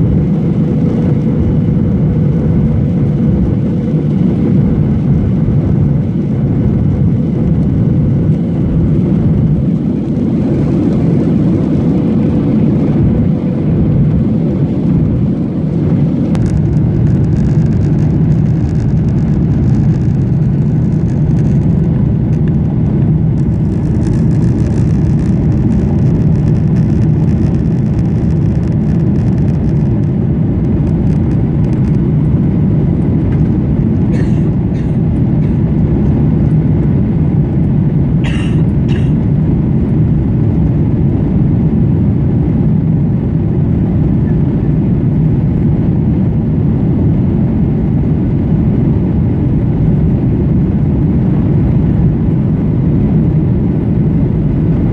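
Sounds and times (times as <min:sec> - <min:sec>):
jet engine rumble in cabin: 0:00.0 - 0:54.9.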